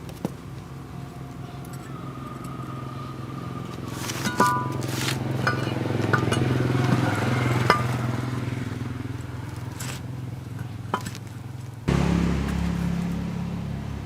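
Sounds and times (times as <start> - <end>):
sharp metallic clinks: 0.0 - 11.7
engine running steadily: 0.0 - 14.0.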